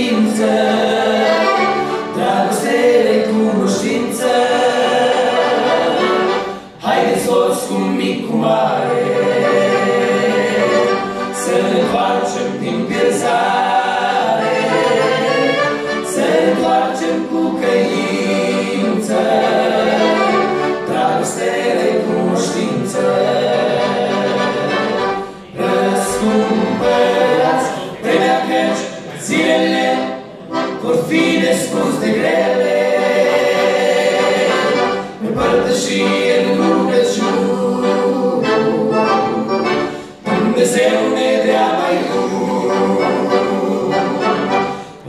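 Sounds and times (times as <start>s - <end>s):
accordion: 0.0s - 45.0s
men singing in harmony: 0.0s - 45.0s.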